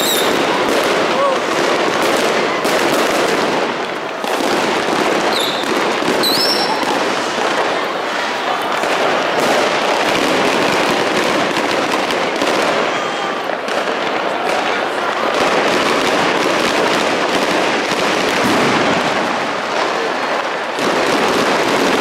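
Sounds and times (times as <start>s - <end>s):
fireworks and firecrackers banging: 0.0s - 22.0s.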